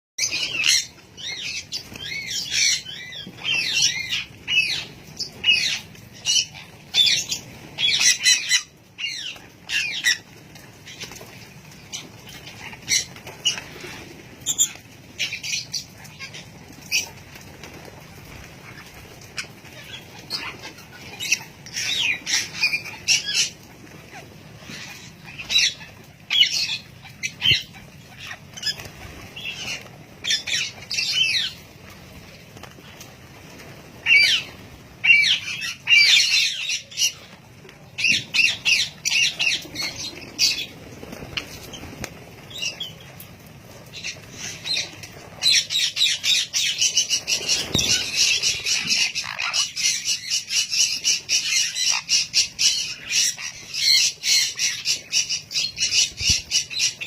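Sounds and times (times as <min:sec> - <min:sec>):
small birds chirping: 0:00.2 - 0:57.0.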